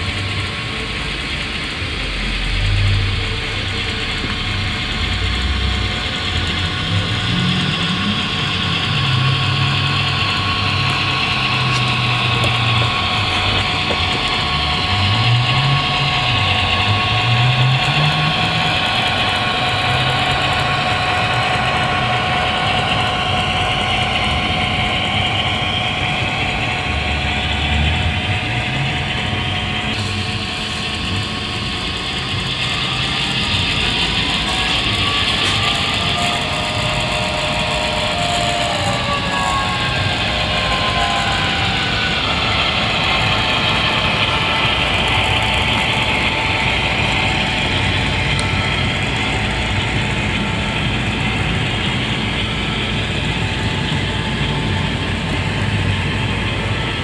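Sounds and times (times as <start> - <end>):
model locomotive engine: 0.0 - 57.0
steady hum: 0.0 - 57.0
wheels rolling on track: 0.0 - 57.0.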